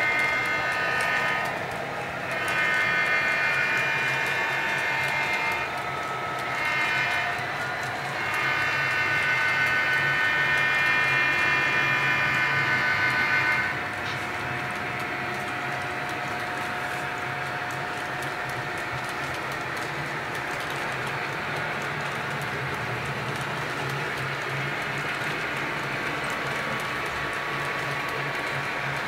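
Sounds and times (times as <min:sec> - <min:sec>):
model train wheels rumbling: 0:00.0 - 0:29.0.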